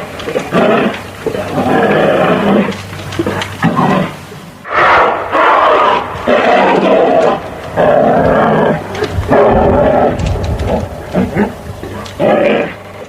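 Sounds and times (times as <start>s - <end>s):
large animal roaring and growling: 0.0s - 13.0s.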